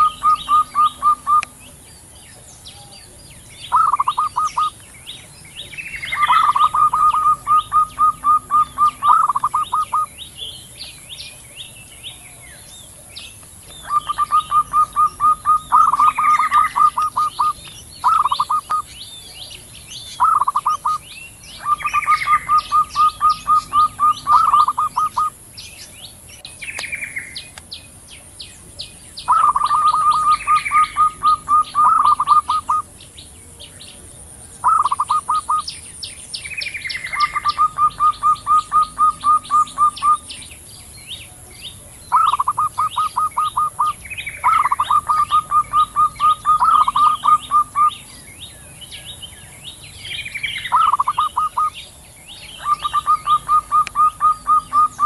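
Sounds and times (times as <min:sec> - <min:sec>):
doves calling: 0:00.0 - 0:55.0
small birds chirping faintly: 0:00.0 - 0:55.0.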